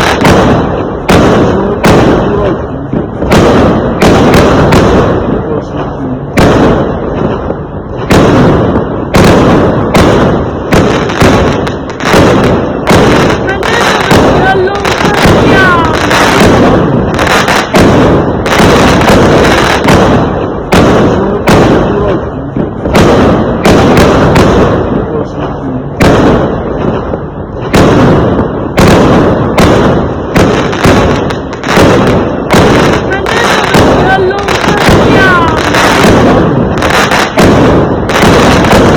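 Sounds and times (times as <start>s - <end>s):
fireworks banging: 0.0s - 38.9s.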